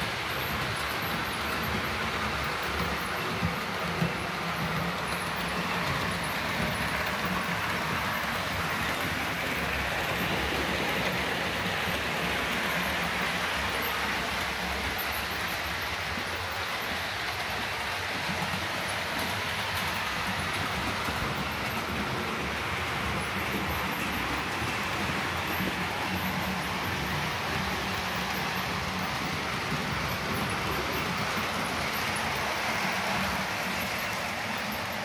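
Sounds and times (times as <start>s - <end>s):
model trains running on track: 0.0s - 35.0s.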